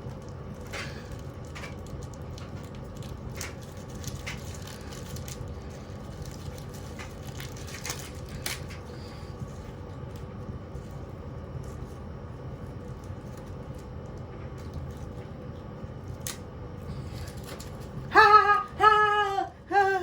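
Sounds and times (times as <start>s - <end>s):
washing machine rumbling: 0.0s - 20.0s.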